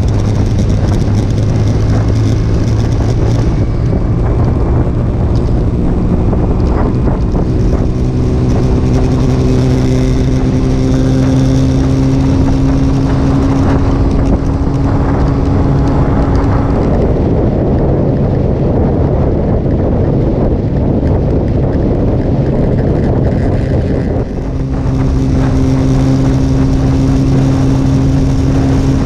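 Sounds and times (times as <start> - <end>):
motorcycle engine running: 0.0 - 29.0
wind noise on microphone: 0.0 - 29.0.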